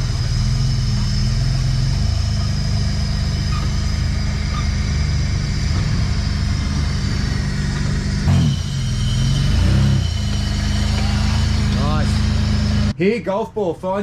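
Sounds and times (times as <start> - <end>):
off-road vehicle engine under load: 0.0 - 14.0.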